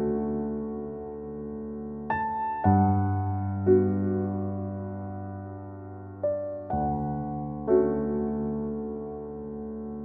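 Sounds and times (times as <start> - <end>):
slow piano-like keyboard music: 0.0 - 10.0.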